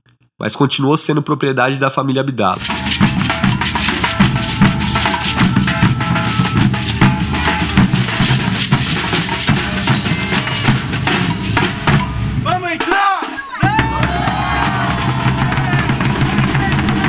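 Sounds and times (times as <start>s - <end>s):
marching drum group playing: 2.6s - 17.0s.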